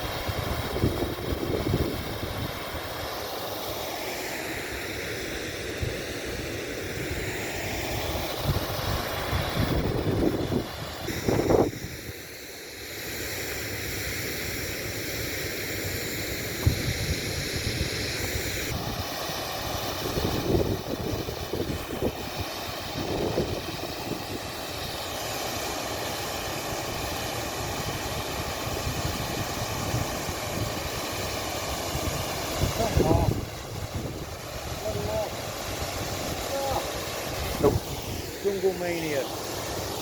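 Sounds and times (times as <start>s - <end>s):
waterfall rushing: 0.0s - 11.9s, 15.8s - 40.0s.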